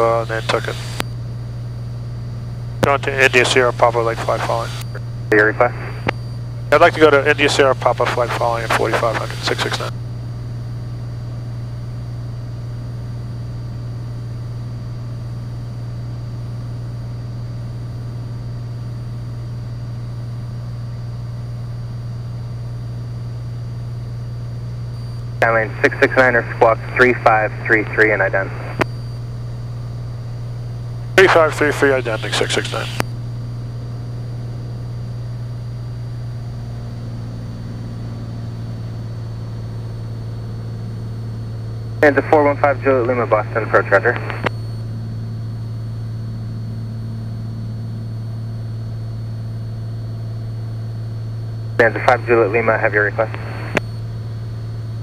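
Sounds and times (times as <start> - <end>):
airplane engine drone: 0.0 - 55.0.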